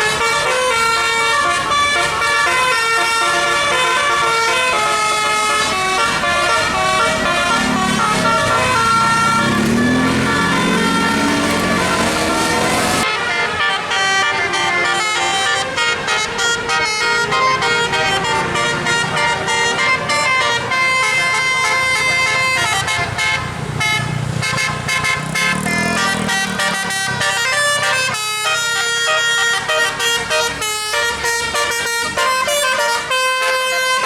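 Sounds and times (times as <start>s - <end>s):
multi-tone bus horn melody: 0.0s - 34.0s.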